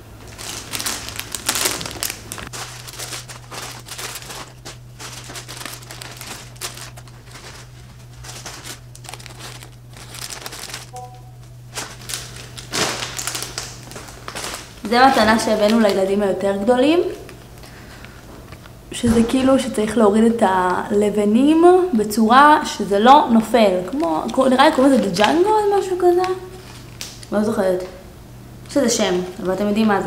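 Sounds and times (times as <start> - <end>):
plastic packaging crinkling: 0.0 - 18.7, 22.0 - 27.3, 29.0 - 30.0.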